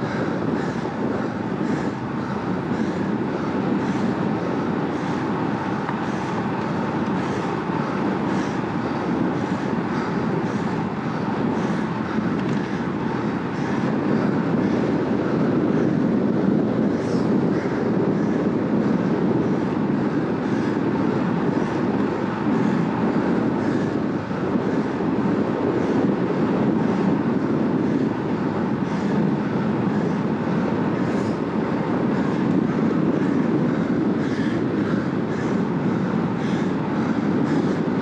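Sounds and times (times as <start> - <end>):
bike tyres humming on asphalt: 0.0 - 38.0
wind rush on microphone: 0.0 - 38.0.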